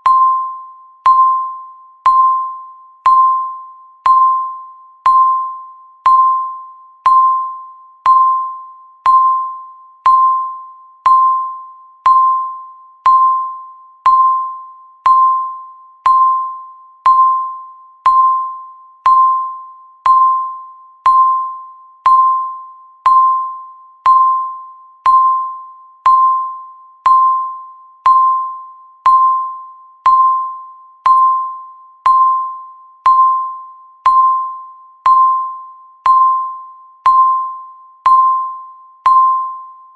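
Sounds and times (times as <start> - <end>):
electronic bell-like ding: 0.0 - 39.9.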